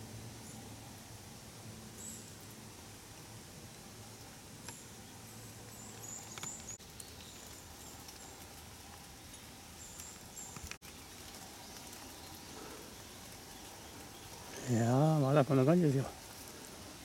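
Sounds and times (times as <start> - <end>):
light rain hiss: 0.0 - 17.0
small birds chirping: 1.8 - 2.7, 3.9 - 17.0.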